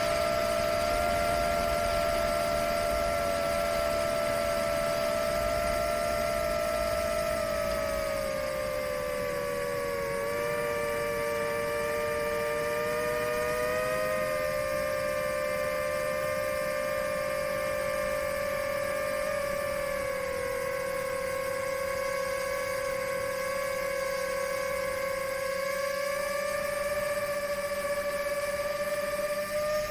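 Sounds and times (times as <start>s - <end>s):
drone propellers whining: 0.0s - 29.9s.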